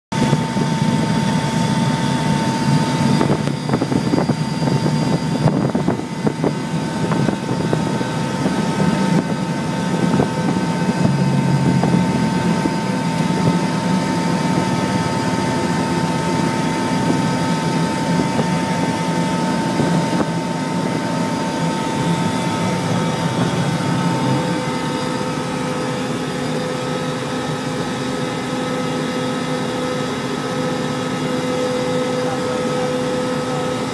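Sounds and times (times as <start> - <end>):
jet engine whine: 0.1 - 33.9
roar of engine and airflow: 0.1 - 33.9.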